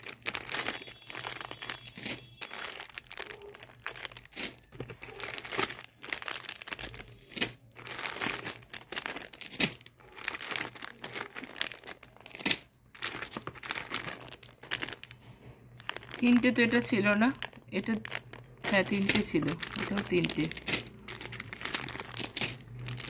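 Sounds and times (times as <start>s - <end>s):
plastic and paper wrappers crinkling: 0.0s - 23.0s.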